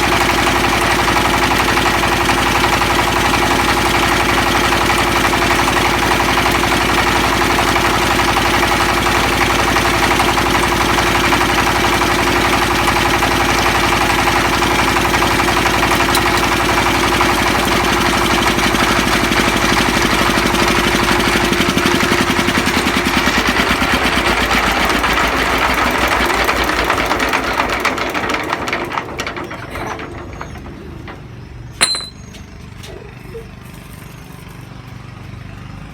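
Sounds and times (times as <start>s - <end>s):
puffed rice machine running: 0.0s - 31.1s.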